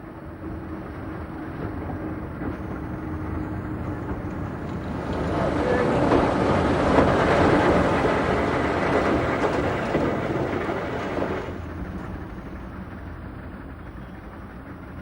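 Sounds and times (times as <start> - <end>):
dull background noise: 0.0 - 15.0
train rumbling: 0.0 - 15.0.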